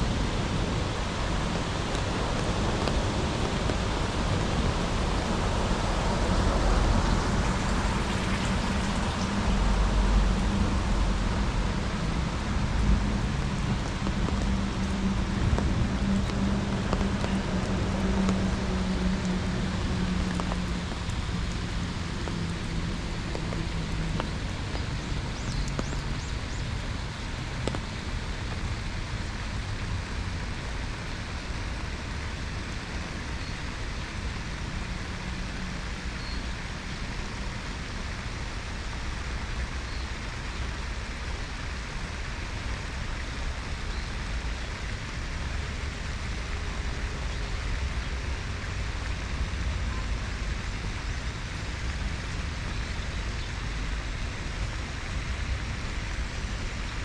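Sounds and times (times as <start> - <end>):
continuous low rumble: 0.0 - 57.0
rain hissing: 0.0 - 57.0.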